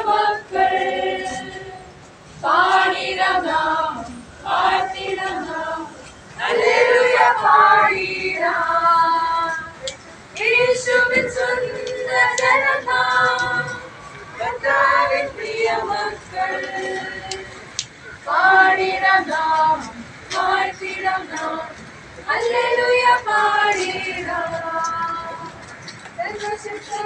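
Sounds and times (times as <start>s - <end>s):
children and women singing: 0.0s - 27.0s.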